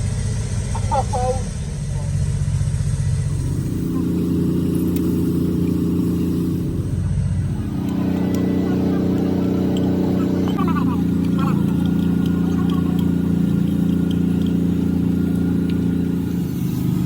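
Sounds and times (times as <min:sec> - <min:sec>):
car engine revving: 0:03.0 - 0:17.0.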